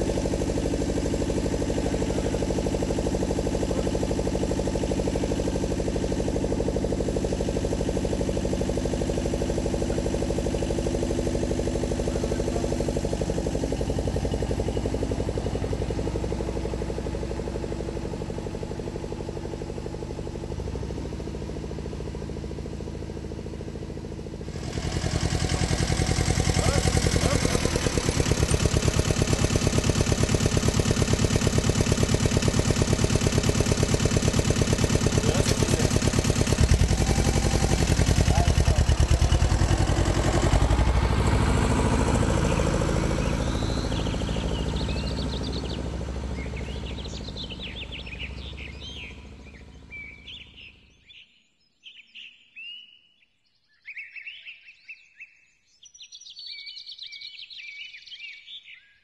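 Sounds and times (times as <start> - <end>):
diesel tractor engine passing: 0.0 - 50.9
birds chirping: 0.0 - 59.0.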